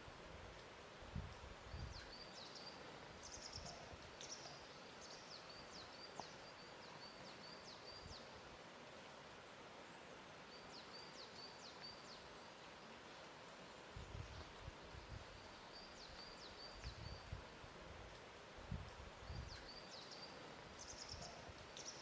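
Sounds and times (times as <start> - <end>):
steady soft hiss: 0.0 - 22.0.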